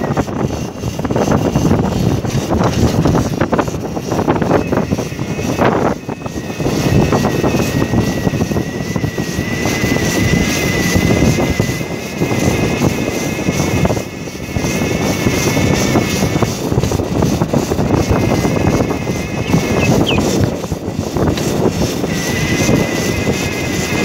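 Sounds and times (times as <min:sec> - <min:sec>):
electric motor whine: 0:00.0 - 0:24.0
wind buffeting microphone: 0:00.0 - 0:24.0.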